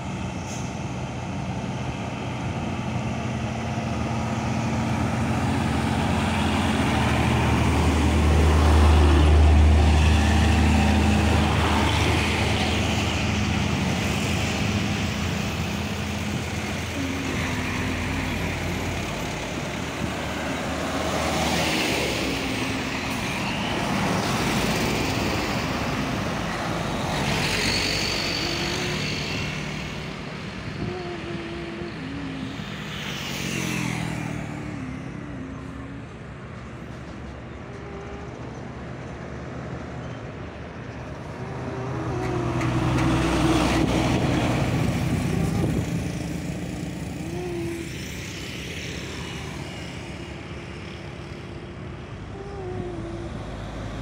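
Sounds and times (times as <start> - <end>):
diesel trucks driving past: 0.0 - 54.0
truck tyres on road: 0.0 - 54.0.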